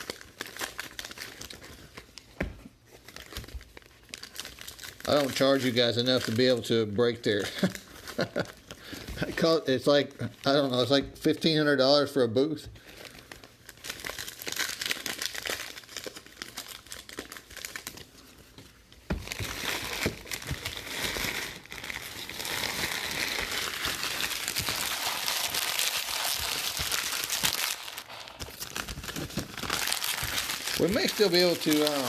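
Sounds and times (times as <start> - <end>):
packs tearing open: 0.0 - 2.2, 3.1 - 9.3, 13.2 - 18.1, 19.2 - 32.0
plastic wrappers crinkling: 0.0 - 12.2, 12.8 - 32.0.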